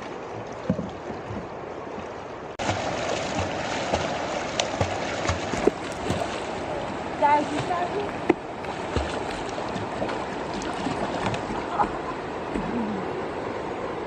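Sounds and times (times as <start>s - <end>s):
sharp water splashes: 0.0s - 12.7s
water sloshing around wading people: 0.0s - 14.0s.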